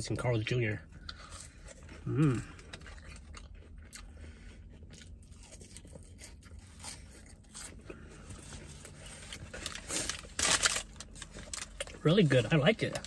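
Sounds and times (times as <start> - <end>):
person chewing food: 1.0 - 12.0.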